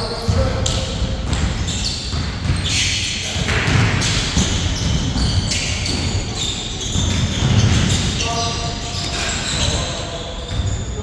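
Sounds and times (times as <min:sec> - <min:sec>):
sneakers squeaking on floor: 0:00.0 - 0:11.0
basketball bouncing on court: 0:00.2 - 0:09.8, 0:10.4 - 0:11.0.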